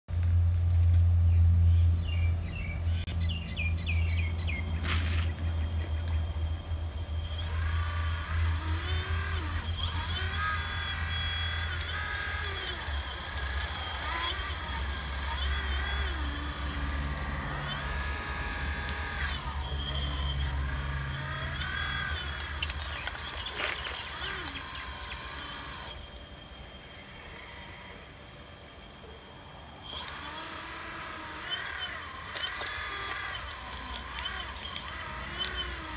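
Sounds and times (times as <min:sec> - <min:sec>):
model excavator hum and whine: 0:00.0 - 0:35.9.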